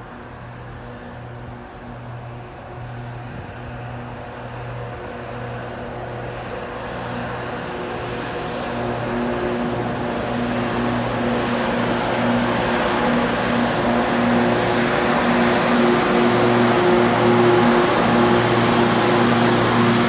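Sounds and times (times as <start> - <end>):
train locomotive humming: 0.0 - 20.0.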